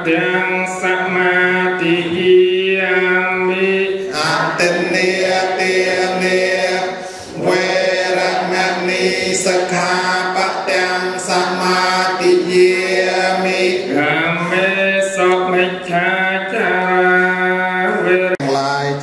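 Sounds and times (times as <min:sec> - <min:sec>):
group chanting prayer in unison: 0:00.0 - 0:19.0.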